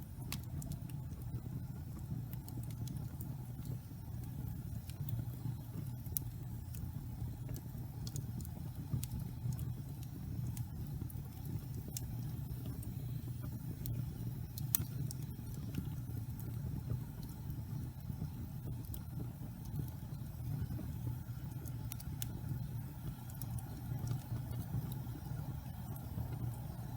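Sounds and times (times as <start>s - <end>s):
fire crackling and popping: 0.0s - 26.9s
rumble of fire flames: 0.0s - 26.9s.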